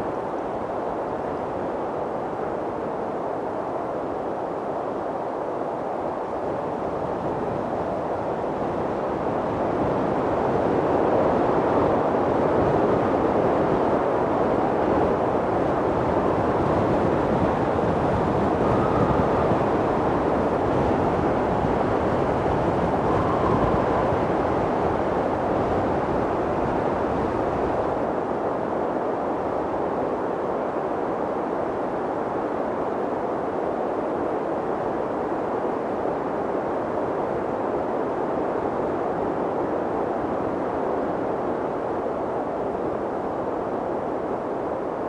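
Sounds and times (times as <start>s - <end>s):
faint wind whistles: 0.0s - 45.0s
strong wind rushing: 0.0s - 45.0s.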